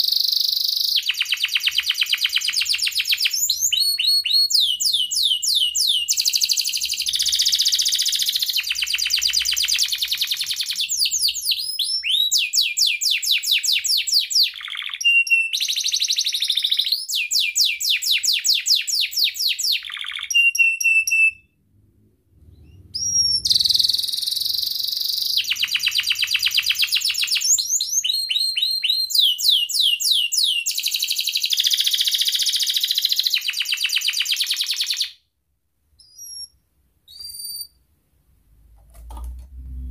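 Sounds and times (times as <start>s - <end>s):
canary singing trills: 0.0s - 21.5s, 22.5s - 35.2s, 36.0s - 37.8s.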